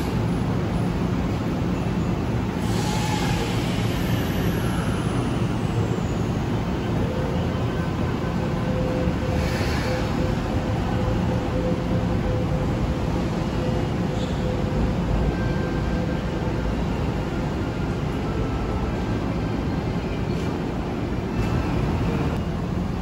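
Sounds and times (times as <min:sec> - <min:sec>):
electric train rumble and hum: 0:00.0 - 0:23.0
train whine: 0:00.0 - 0:23.0.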